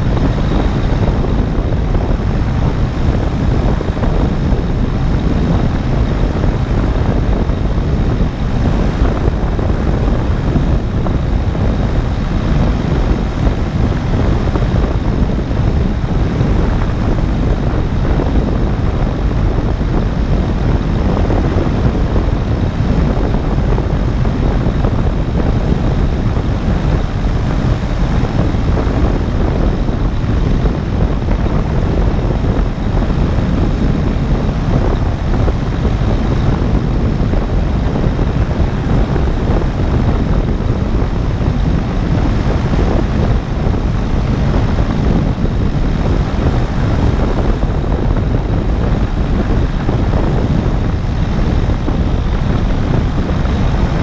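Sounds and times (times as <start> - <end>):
paramotor engine droning: 0.0 - 54.0
wind rushing over microphone: 0.0 - 54.0.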